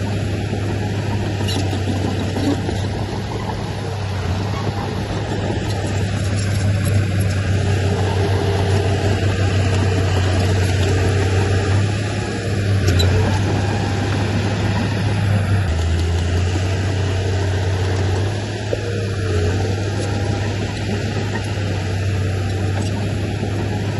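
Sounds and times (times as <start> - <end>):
heavy machinery diesel engine drone: 0.0 - 23.9.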